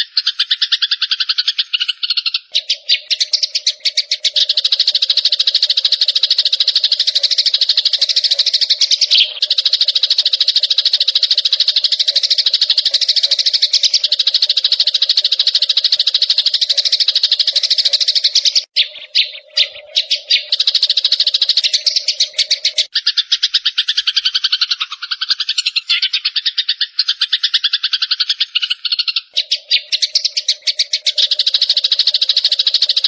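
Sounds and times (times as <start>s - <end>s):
songbird trilling: 0.0s - 33.0s.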